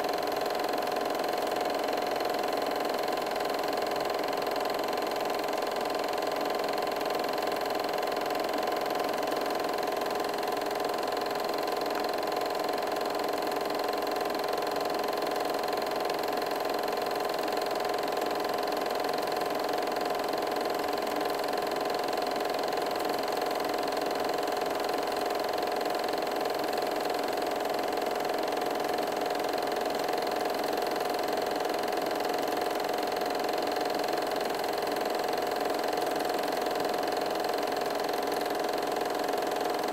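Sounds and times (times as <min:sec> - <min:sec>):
film projector humming: 0:00.0 - 0:39.9.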